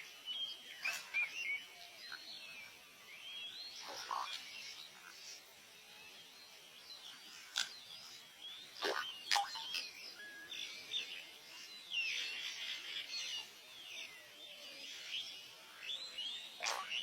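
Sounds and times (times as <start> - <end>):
birds chirping: 0.0 - 17.0
faint background hiss: 0.0 - 17.0.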